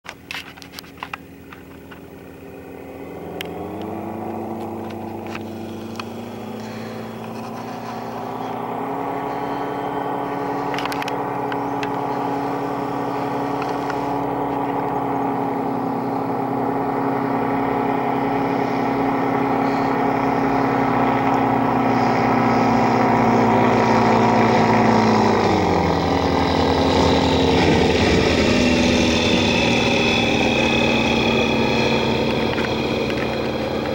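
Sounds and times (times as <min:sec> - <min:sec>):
light aircraft engine and propeller: 0:00.1 - 0:33.9.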